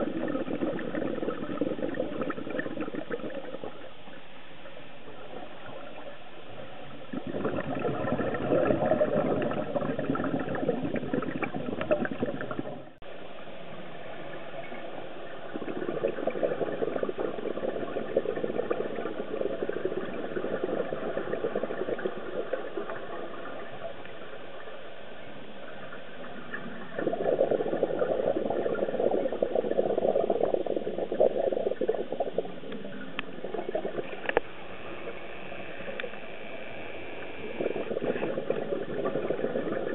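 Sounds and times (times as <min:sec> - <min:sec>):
underwater bubbles crackling: 0:00.0 - 0:13.0, 0:14.3 - 0:36.3, 0:37.2 - 0:39.9.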